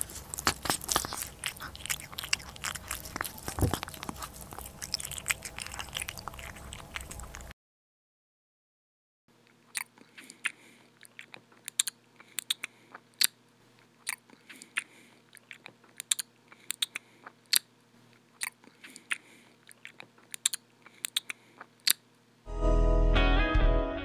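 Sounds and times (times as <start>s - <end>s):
faint steady hum: 0.0s - 7.5s, 9.3s - 22.5s
person chewing crunchy food: 0.0s - 7.5s, 9.4s - 22.0s.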